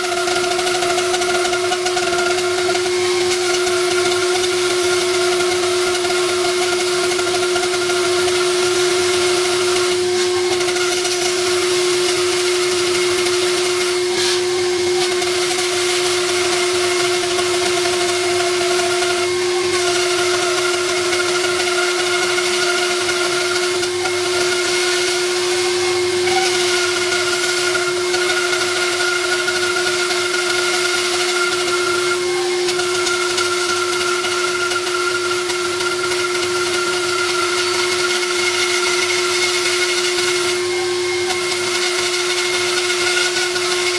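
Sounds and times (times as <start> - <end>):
board being cut: 0.0 - 43.9
woodworking machine motor hum: 0.0 - 43.9.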